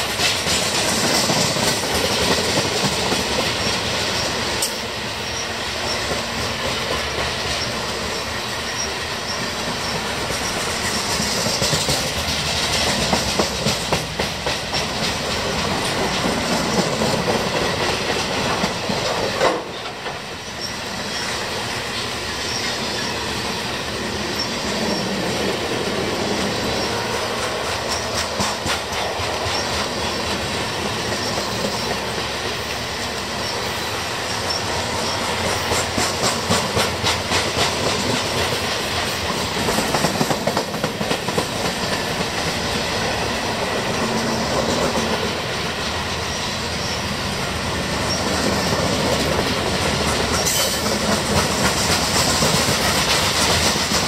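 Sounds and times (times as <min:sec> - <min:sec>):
wheels clicking over rail joints: 0:00.0 - 0:21.4, 0:24.3 - 0:46.9, 0:48.0 - 0:54.0
freight train cars rolling: 0:00.0 - 0:54.0.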